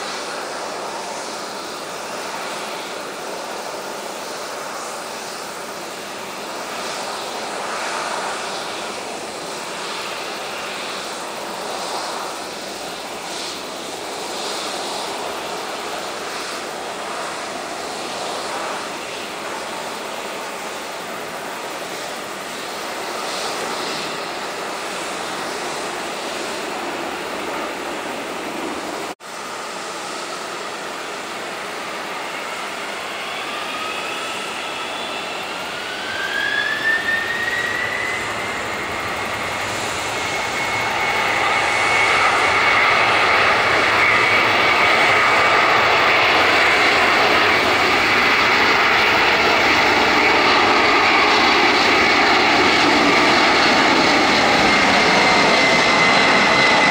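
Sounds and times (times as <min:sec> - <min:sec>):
jet engine rush: 0:00.0 - 0:56.9
jet engines whining: 0:00.0 - 0:56.9.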